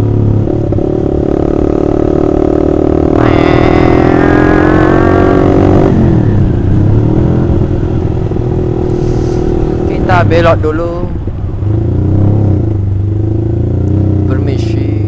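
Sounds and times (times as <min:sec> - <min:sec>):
motorcycle engine with loud exhaust: 0:00.0 - 0:15.0.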